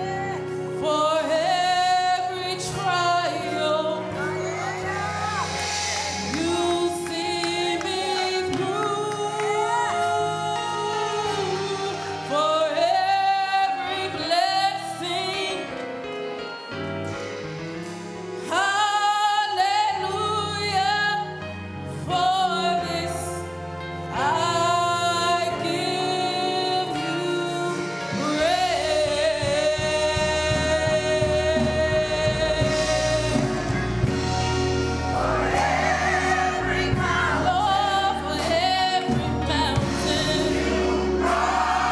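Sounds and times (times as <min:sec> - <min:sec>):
church choir singing: 0:00.0 - 0:41.9
gospel accompaniment: 0:00.0 - 0:41.9.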